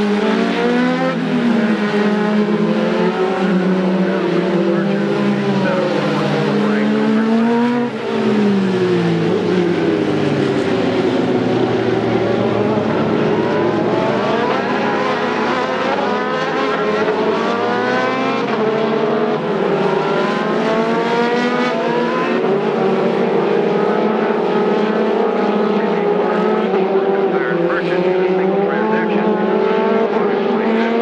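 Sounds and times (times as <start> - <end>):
race car engines revving: 0.0 - 31.0.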